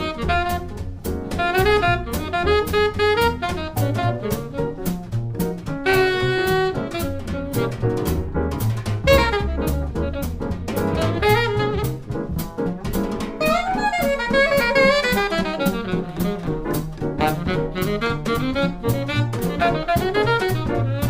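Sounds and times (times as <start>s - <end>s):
alto saxophone solo: 0.0s - 5.0s, 5.8s - 8.1s, 9.0s - 12.1s, 13.4s - 21.0s
double bass: 0.0s - 21.0s
drums keeping time: 0.0s - 21.0s.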